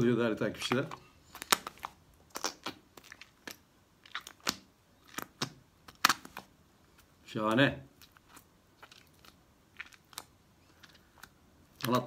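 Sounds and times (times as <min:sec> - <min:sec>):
slime squishing with clicks and pops: 0:00.6 - 0:12.0.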